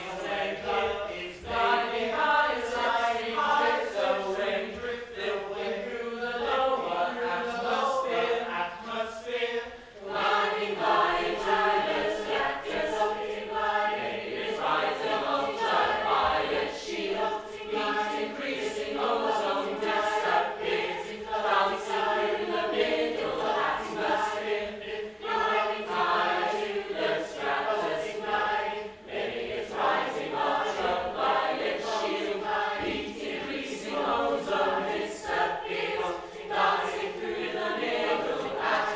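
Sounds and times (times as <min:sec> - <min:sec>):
choir chanting unaccompanied: 0:00.0 - 0:38.9.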